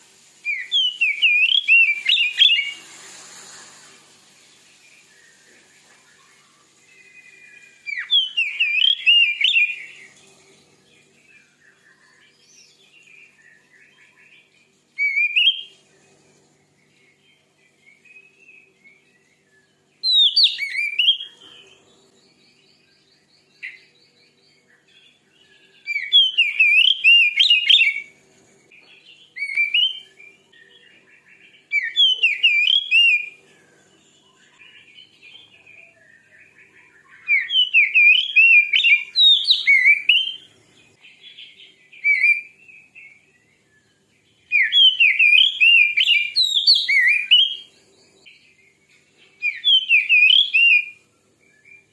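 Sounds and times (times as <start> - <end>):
bird singing whistled phrases: 0.4 - 2.9, 4.9 - 10.1, 11.4 - 15.8, 16.8 - 22.9, 24.7 - 28.1, 29.1 - 33.4, 34.2 - 47.7, 49.4 - 51.9.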